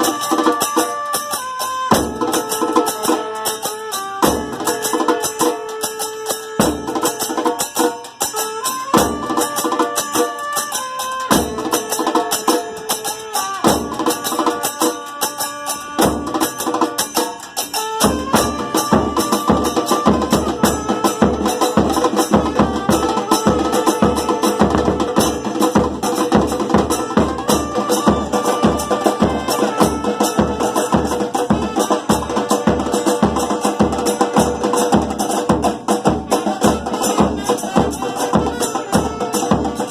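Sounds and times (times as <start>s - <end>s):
hand percussion: 0.0s - 39.9s.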